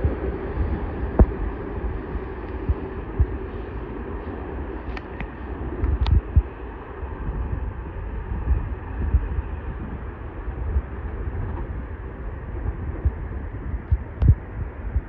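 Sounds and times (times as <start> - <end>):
distant electric train approaching: 0.0 - 15.0
wind buffeting microphone: 0.0 - 15.0.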